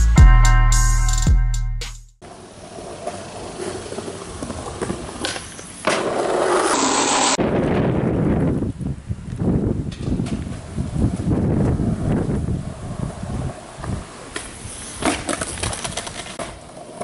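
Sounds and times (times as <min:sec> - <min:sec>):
skateboard wheels rolling on asphalt: 0:02.2 - 0:17.0.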